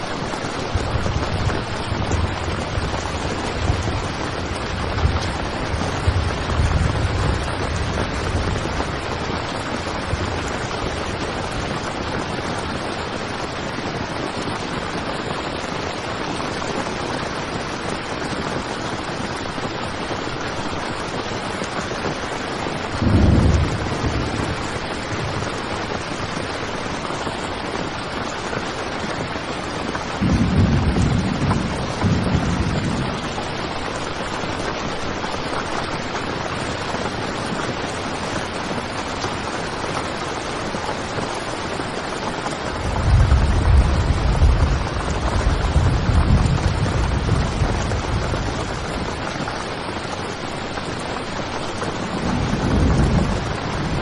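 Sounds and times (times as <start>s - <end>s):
heavy rain on a tent: 0.0s - 54.0s.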